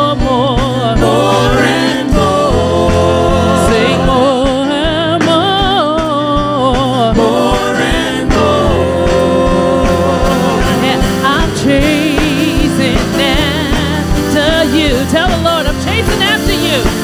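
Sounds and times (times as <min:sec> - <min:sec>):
backing band: 0:00.0 - 0:17.0.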